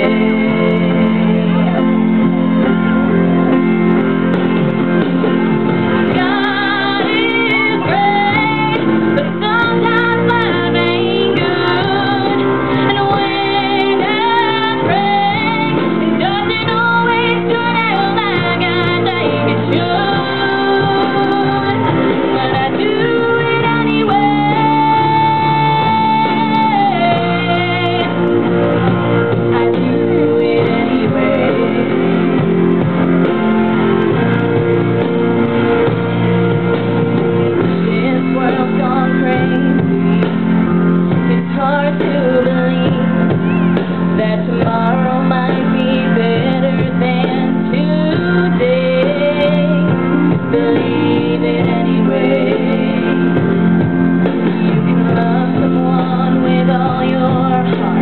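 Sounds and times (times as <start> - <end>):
woman singing into a microphone: 0.0 - 4.0, 5.7 - 34.8, 37.2 - 58.0
instrumental accompaniment: 0.0 - 58.0.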